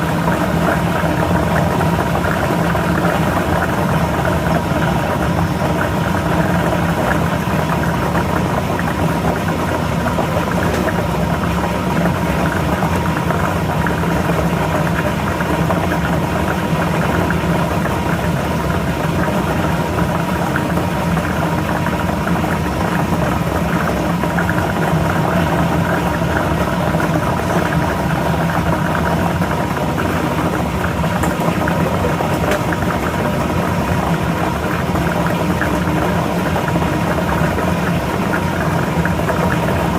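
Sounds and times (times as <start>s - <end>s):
motor hum: 0.0s - 39.9s.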